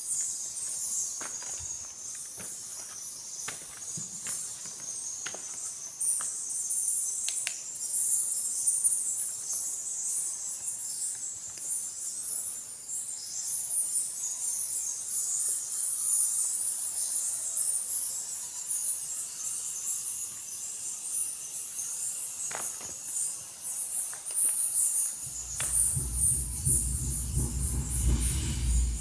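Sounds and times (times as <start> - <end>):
bats chattering and squeaking: 0.0 - 29.0.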